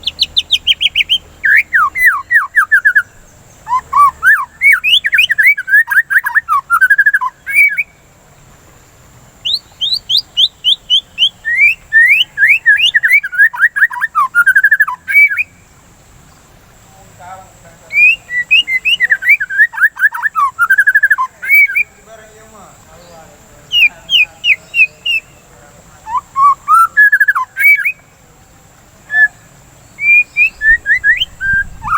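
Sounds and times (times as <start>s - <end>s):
bird singing whistled notes: 0.0s - 8.1s, 8.8s - 15.7s, 17.8s - 28.2s, 29.0s - 31.9s.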